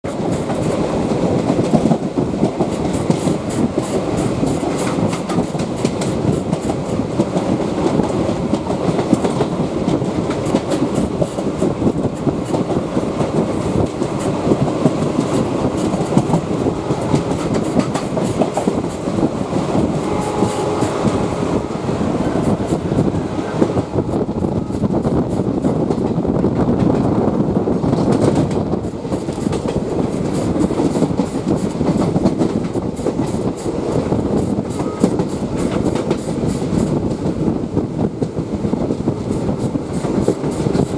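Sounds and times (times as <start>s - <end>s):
wheels clicking over rail joints: 0.0s - 20.0s, 27.8s - 40.9s
train rumble and clickety-clack: 0.0s - 40.9s.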